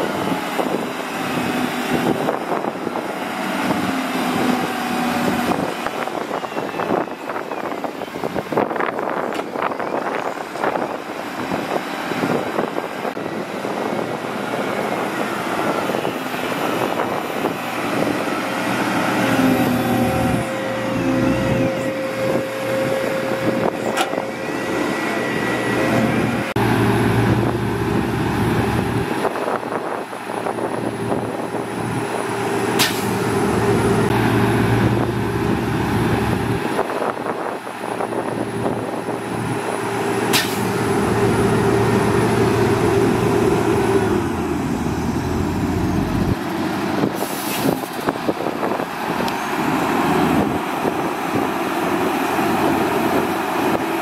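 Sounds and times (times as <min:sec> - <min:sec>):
heavy diesel machines droning: 0:00.0 - 0:54.0.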